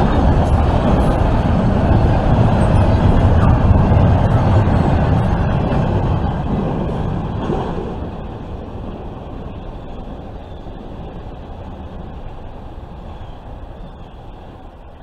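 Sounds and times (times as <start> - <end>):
freight train wheels on rails: 0.0 - 15.0.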